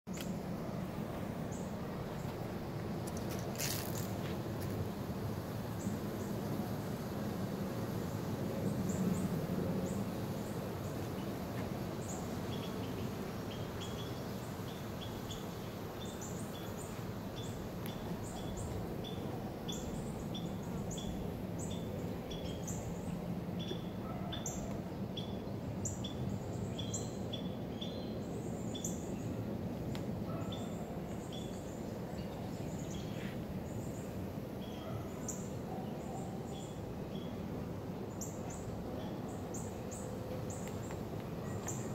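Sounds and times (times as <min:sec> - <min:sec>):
steady low hum: 0:00.1 - 0:41.9.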